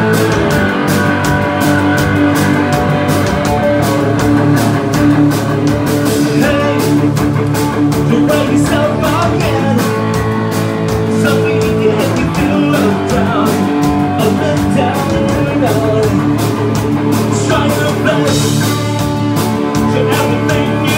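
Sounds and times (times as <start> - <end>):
drum kit beat: 0.0 - 20.9
electric guitar: 0.0 - 20.9.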